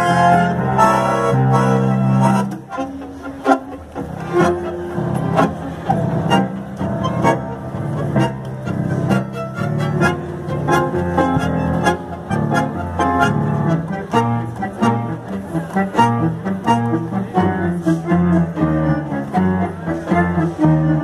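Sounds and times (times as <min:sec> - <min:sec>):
bandoneon: 0:00.0 - 0:21.0
double bass: 0:00.0 - 0:21.0
tango ensemble playing: 0:00.0 - 0:21.0
violins melody: 0:00.0 - 0:21.0.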